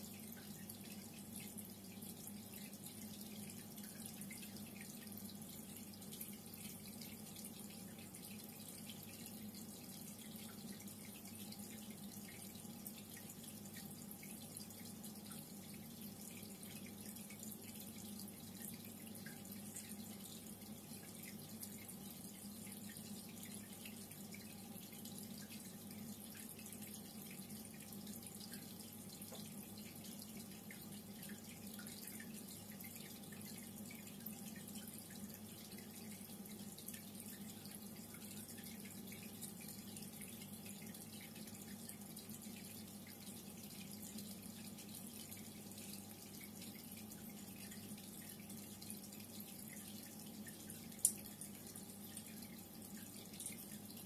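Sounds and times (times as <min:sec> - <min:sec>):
water trickling and dripping: 0:00.0 - 0:54.0.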